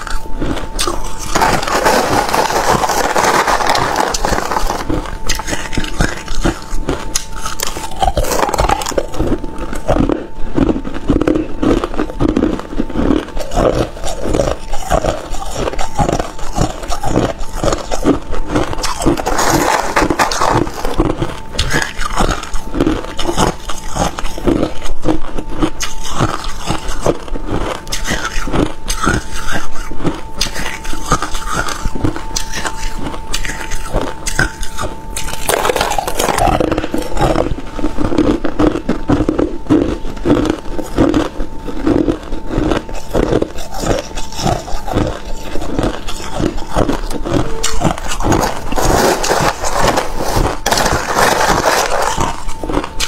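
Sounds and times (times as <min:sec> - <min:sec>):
ice crunching between teeth: 0:00.0 - 0:53.0.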